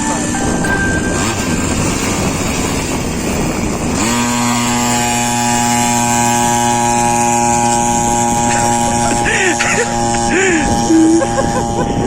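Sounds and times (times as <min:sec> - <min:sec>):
pocket bike engine revving: 0:00.0 - 0:12.0.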